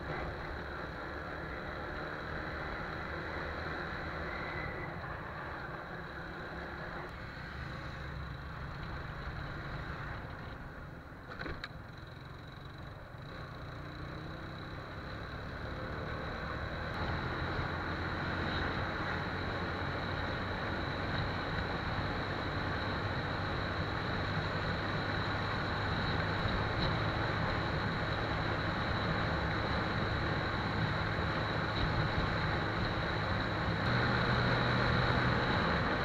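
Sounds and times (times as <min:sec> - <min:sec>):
motorcycle engine cruising: 0:00.0 - 0:36.0
road and wind noise: 0:00.0 - 0:36.0.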